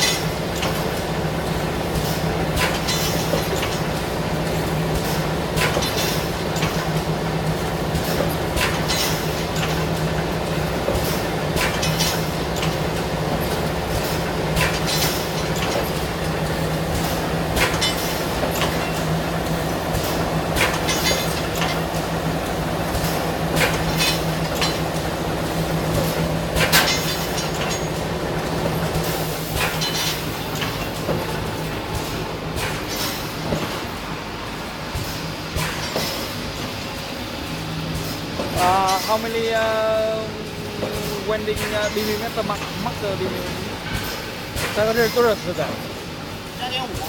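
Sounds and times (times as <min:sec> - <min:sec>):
pneumatic clamps clacking and hissing: 0:00.0 - 0:39.4, 0:40.4 - 0:47.0.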